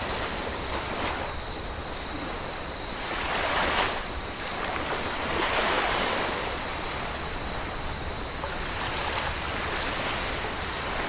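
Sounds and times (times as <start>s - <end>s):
waves washing on beach: 0.0s - 11.0s.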